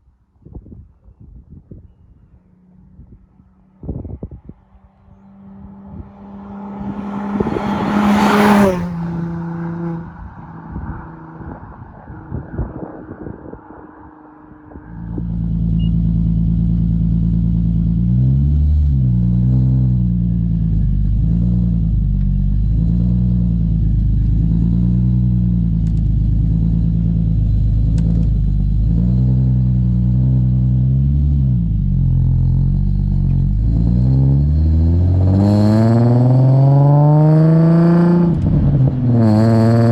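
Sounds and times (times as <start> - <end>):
car engine revving: 2.4 - 39.9.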